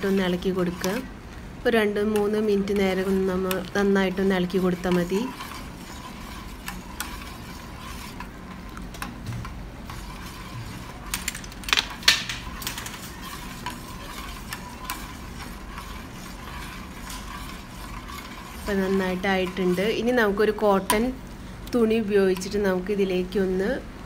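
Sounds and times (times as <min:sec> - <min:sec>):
metal spoon scraping a pan: 0:00.0 - 0:01.1, 0:01.8 - 0:21.2.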